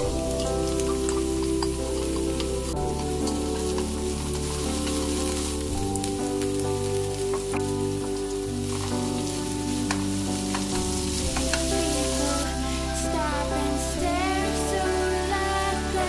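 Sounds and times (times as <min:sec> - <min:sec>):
onions sizzling in hot oil: 0:00.0 - 0:16.0
soft instrumental music: 0:00.0 - 0:16.0.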